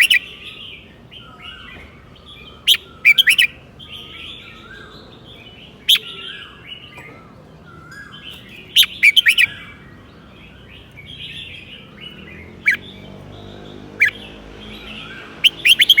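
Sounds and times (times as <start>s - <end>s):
bird sharp chirps: 0.0s - 16.0s
bird warbling song: 0.0s - 16.0s.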